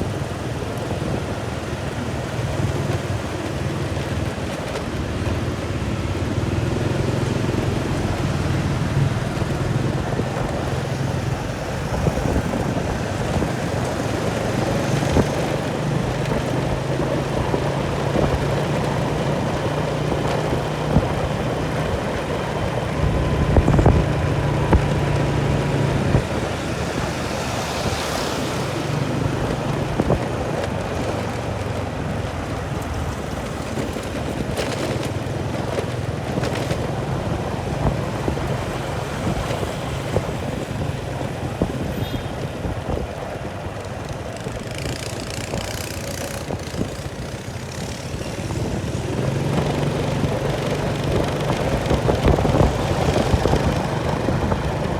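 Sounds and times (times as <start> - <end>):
wind noise: 0.0 - 54.9
engine running with low hum: 2.0 - 42.2, 44.4 - 54.9.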